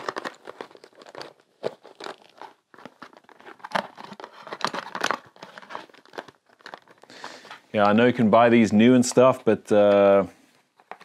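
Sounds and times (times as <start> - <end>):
crinkling: 0.0 - 11.0.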